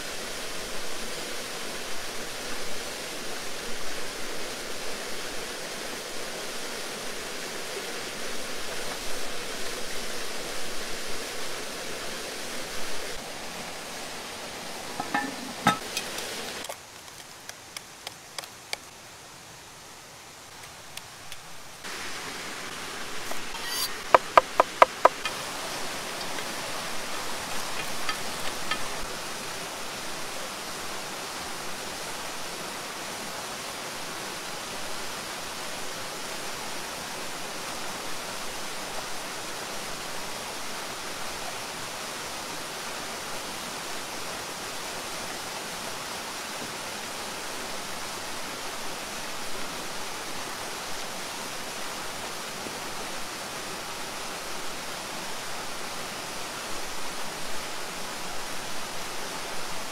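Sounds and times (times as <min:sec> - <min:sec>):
waterfall rushing: 0:00.0 - 0:16.6, 0:21.6 - 0:59.9.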